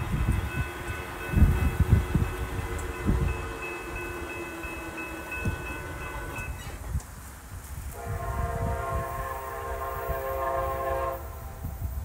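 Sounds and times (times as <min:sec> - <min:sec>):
distant locomotive air horn: 0:00.0 - 0:06.8, 0:07.9 - 0:12.0.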